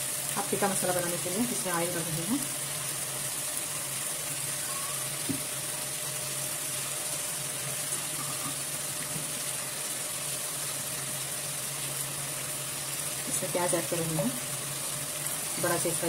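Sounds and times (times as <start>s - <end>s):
induction cooktop hum and hiss: 0.0s - 16.0s.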